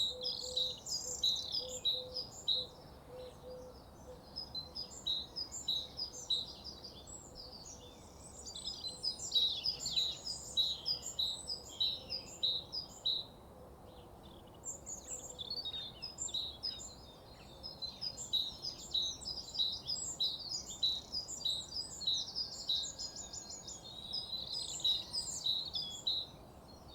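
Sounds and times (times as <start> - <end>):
songbirds chorus: 0.0 - 26.9.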